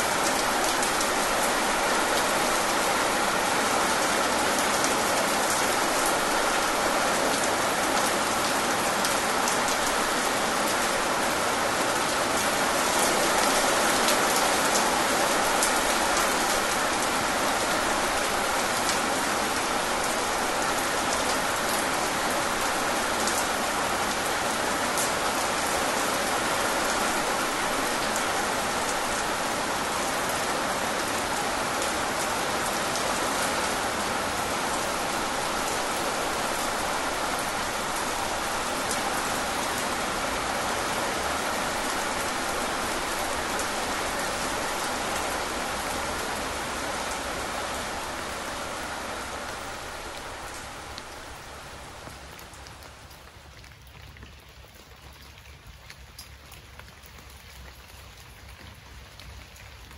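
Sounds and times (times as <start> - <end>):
heavy rain hissing: 0.0 - 53.1
raindrops ticking on a surface: 0.1 - 59.9.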